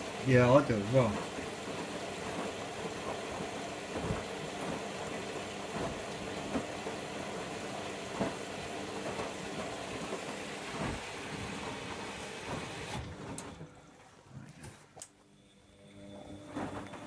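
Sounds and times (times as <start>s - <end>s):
washing machine drum turning: 0.0s - 13.9s
water running in: 0.0s - 14.3s.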